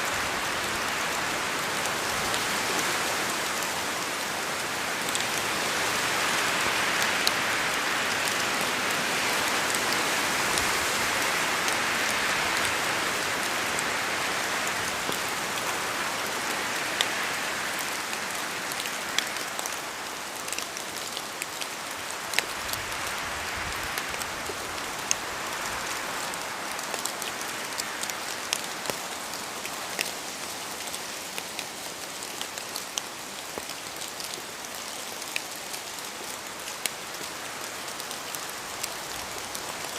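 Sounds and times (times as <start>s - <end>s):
raindrops striking close by: 0.0s - 39.9s
steady rain hiss: 0.0s - 39.9s.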